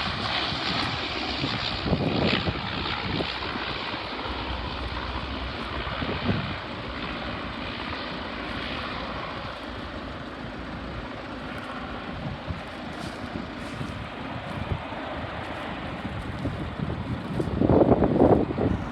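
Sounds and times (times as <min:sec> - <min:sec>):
jet engines rushing: 0:00.0 - 0:18.9
wind buffeting microphone: 0:00.0 - 0:18.9.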